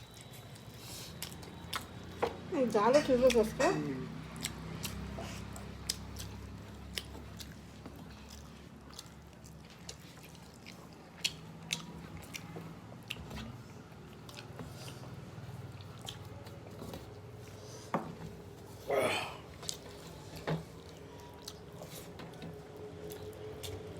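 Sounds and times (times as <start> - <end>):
chewing and eating sounds: 0.0 - 23.9.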